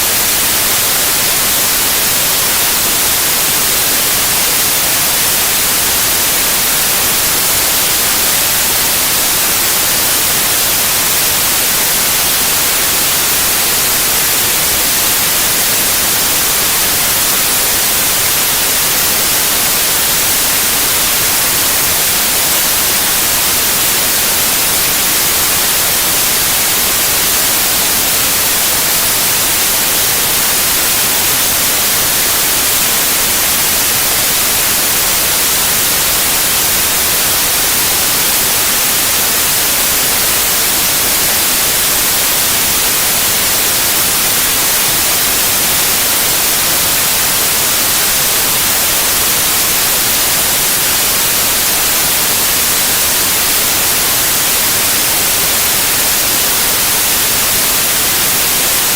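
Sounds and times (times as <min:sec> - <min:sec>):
white noise hiss: 0:00.0 - 0:58.9.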